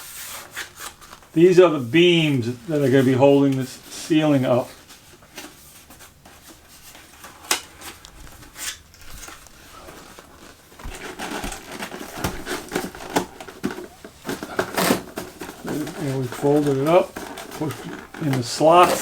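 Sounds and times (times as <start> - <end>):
cardboard rustling and crinkling: 0.0 - 19.0.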